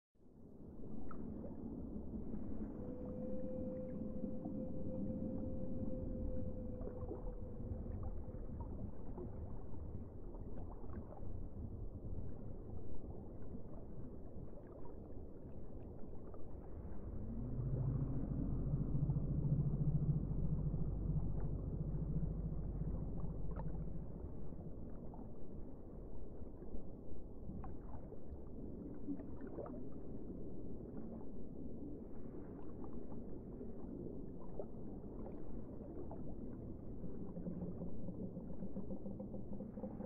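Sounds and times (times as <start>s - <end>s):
low underwater drone: 0.2s - 40.0s
watery wash: 0.3s - 40.0s
small underwater clicks and pops: 0.6s - 2.1s, 6.7s - 40.0s.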